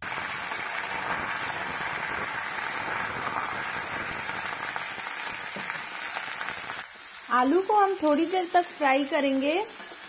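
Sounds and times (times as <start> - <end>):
potatoes sizzling in hot fat: 0.0 - 10.0.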